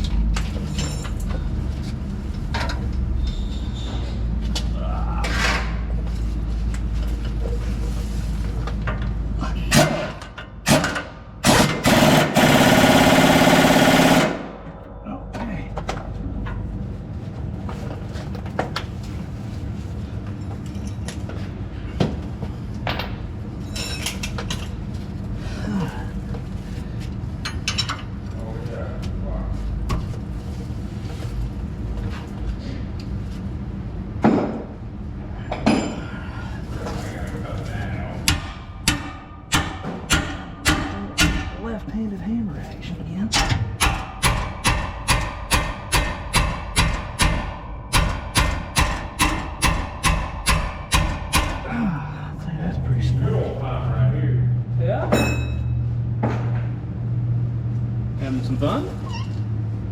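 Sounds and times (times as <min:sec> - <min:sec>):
low machine drone: 0:00.0 - 0:59.9
low mechanical rumble: 0:00.0 - 0:59.9.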